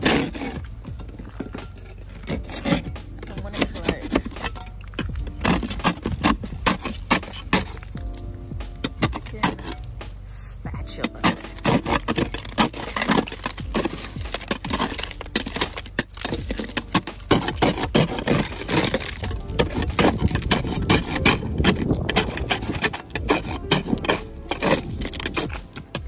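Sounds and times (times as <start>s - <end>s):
ice cracking: 0.0s - 26.0s
spatula scraping ice: 0.0s - 26.0s.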